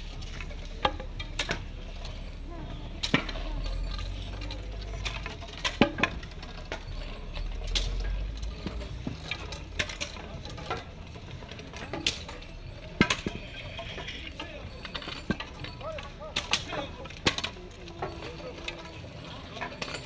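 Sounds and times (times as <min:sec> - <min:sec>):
staffs knocking and clicking: 0:00.0 - 0:20.0.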